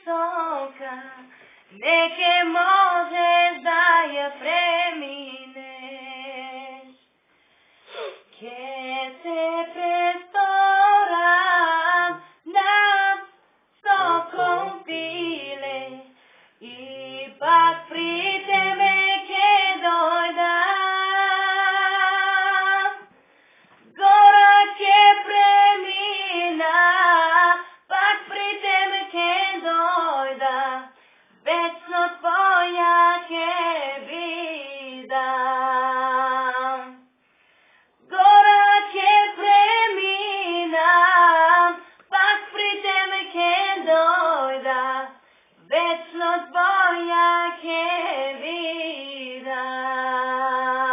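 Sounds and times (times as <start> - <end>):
girl singing pop ballad: 0.0 - 7.0, 7.9 - 37.0, 37.6 - 50.9.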